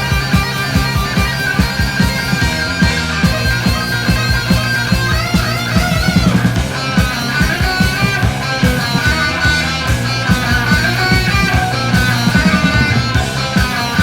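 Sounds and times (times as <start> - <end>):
bass guitar: 0.0 - 14.0
drums: 0.0 - 14.0
electric guitar: 0.0 - 14.0.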